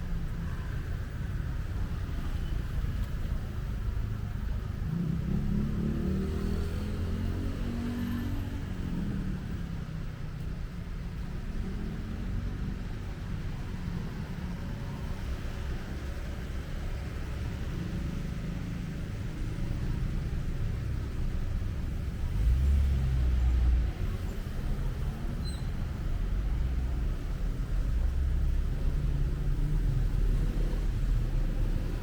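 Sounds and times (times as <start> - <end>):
street traffic rumble: 0.0 - 32.0.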